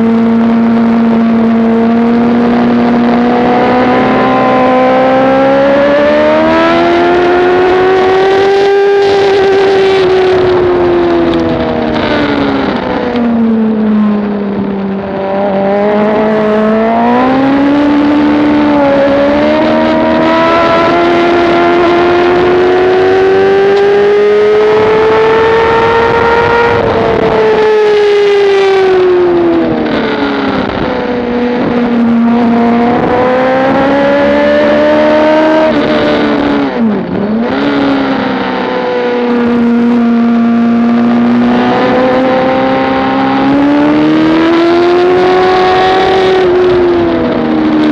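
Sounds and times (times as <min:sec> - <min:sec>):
motorcycle engine racing: 0:00.0 - 0:47.9
wind rushing: 0:00.6 - 0:40.0.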